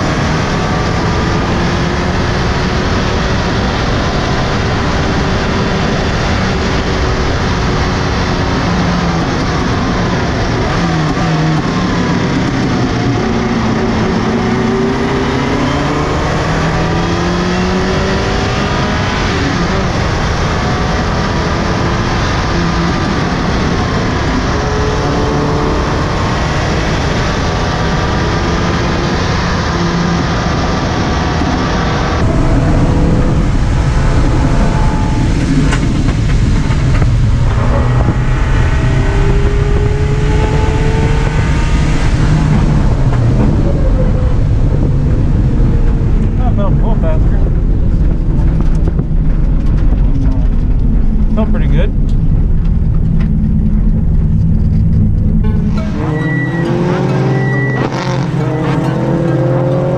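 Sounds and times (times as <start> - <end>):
rally car engine accelerating: 0.0 - 59.9
road and tyre noise: 0.0 - 59.9.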